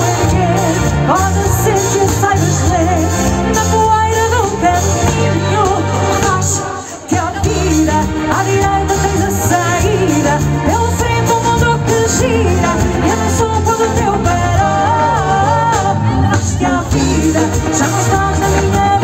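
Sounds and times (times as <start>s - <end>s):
live pop band playing: 0.0s - 19.0s
woman singing: 0.0s - 19.0s.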